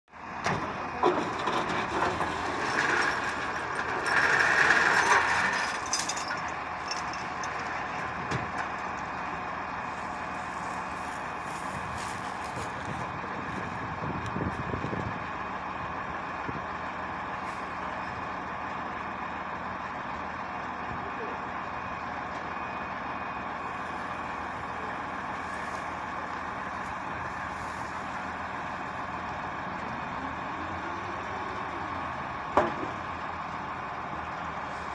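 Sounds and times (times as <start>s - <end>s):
diesel engines running: 0.1s - 34.9s.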